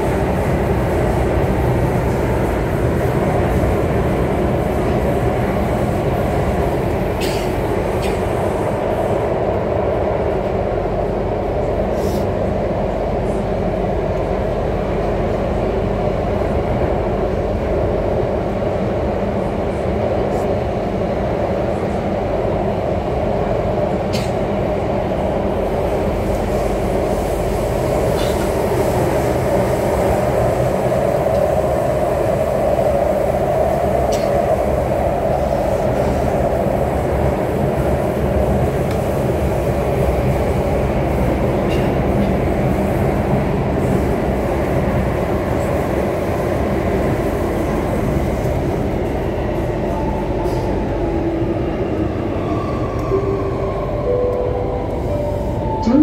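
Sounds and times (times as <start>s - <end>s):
faint train whine: 0.0s - 56.0s
train rumbling in tunnel: 0.0s - 56.0s.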